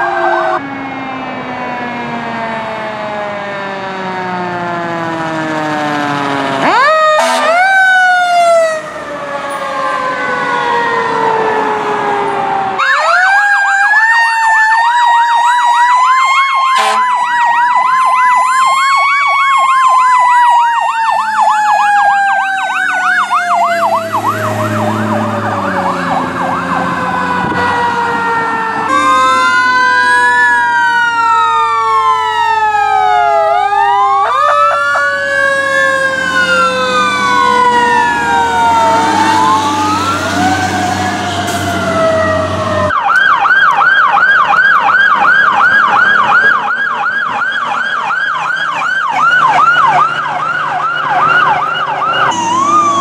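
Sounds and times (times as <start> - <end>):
fire truck sirens: 0.0 - 53.0.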